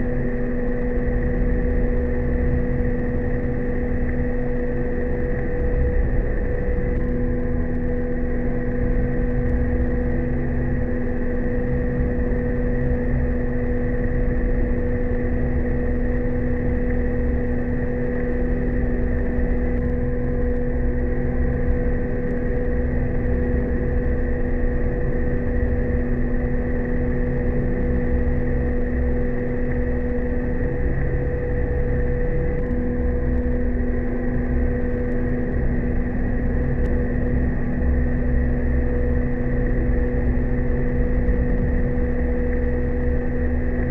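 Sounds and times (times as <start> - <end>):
high engine whine: 0.0 - 43.9.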